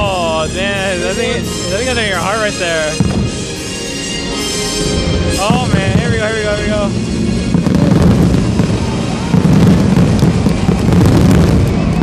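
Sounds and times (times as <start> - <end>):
fireworks crackling: 0.0 - 12.0
low rumble: 0.0 - 12.0
fireworks shells bursting: 1.6 - 12.0.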